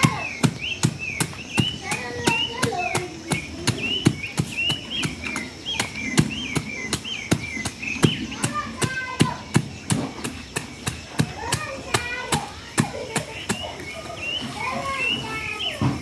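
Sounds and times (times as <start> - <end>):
machete chopping sweet potatoes: 0.0 - 14.4.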